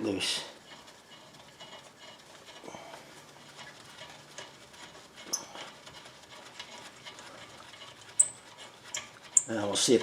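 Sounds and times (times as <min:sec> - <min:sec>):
hand tools clicking and tapping metal: 0:00.0 - 0:10.0.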